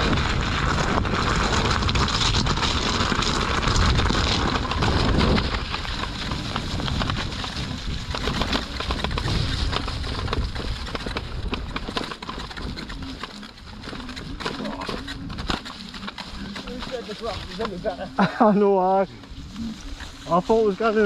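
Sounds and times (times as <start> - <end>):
wind rushing over microphone: 0.0 - 18.0
tyre crackling on wet trail: 0.0 - 21.0.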